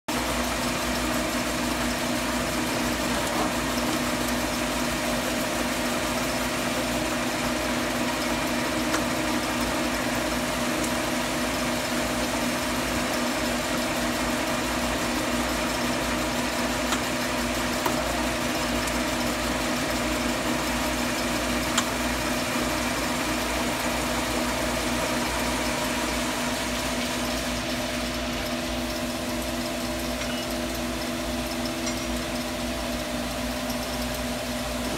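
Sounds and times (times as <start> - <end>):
lathe humming: 0.1 - 34.9.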